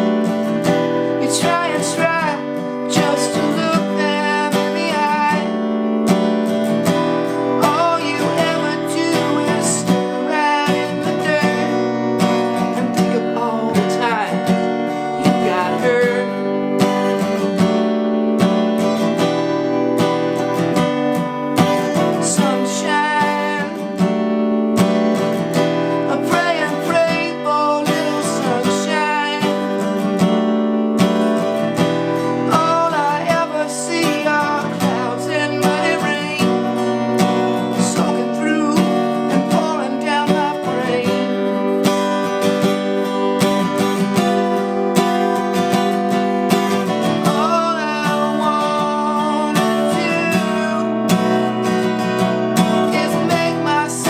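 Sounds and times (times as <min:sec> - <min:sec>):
man singing: 0:00.0 - 0:05.7, 0:06.8 - 0:17.6, 0:21.0 - 0:24.2, 0:25.5 - 0:30.4, 0:31.4 - 0:45.2, 0:46.4 - 0:54.0
acoustic guitar strummed: 0:00.0 - 0:54.0.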